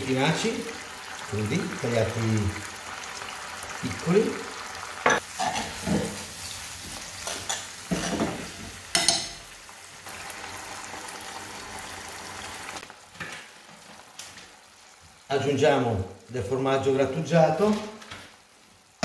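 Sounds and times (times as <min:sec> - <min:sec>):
sauce sizzling in frying pan: 0:00.0 - 0:19.0.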